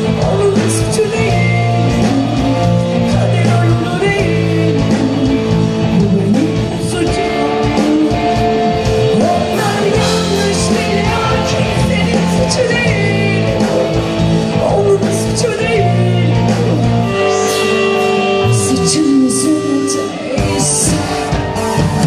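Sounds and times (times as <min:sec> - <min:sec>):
live pop-rock band with singer: 0:00.0 - 0:22.0.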